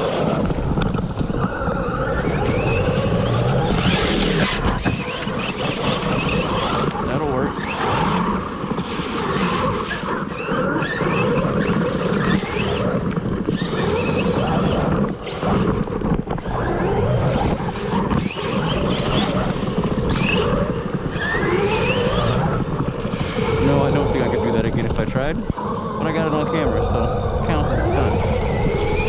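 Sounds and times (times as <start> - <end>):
rc car electric motor whining: 0.0 - 29.0
steady rushing noise: 0.0 - 29.0.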